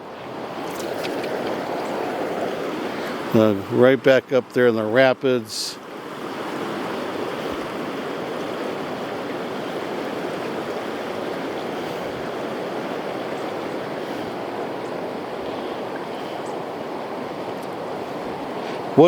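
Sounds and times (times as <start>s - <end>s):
river rapids rushing: 0.0s - 4.3s, 5.3s - 19.0s.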